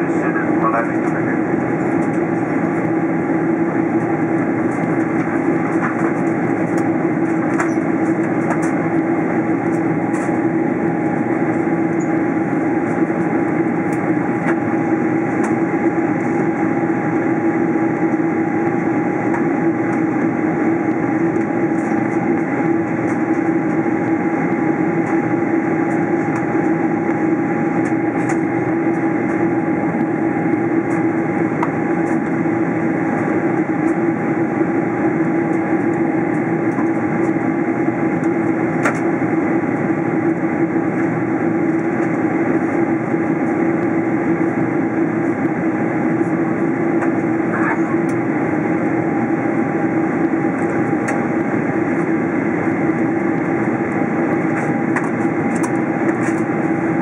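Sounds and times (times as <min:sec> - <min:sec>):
jet engine and airflow roar: 0:00.0 - 0:57.0
steady low hum: 0:00.0 - 0:57.0.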